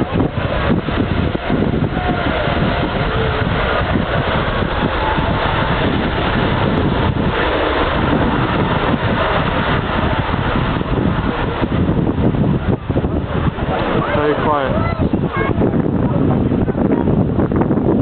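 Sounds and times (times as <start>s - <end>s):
jet engines rumbling: 0.0s - 18.0s
wind buffeting microphone: 0.0s - 18.0s.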